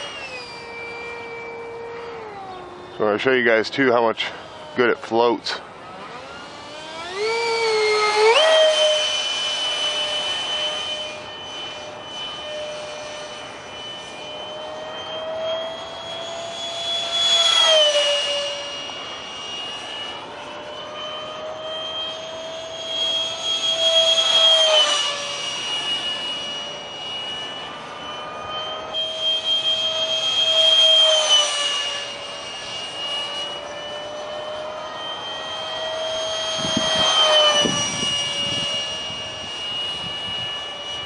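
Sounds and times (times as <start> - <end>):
electric ducted fan whine: 0.0 - 41.0.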